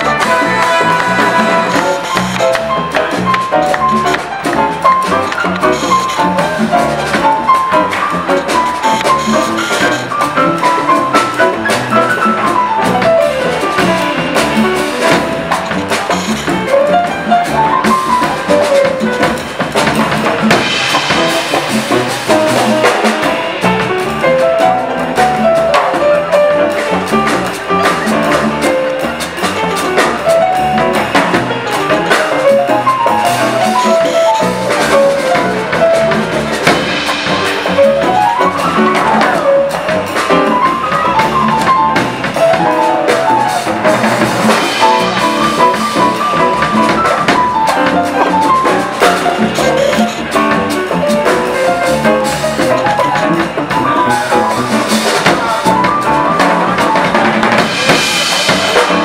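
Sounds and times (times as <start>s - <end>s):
drum kit: 0.0s - 59.0s
jazz band playing: 0.0s - 59.0s
piano playing fast runs: 0.0s - 59.0s.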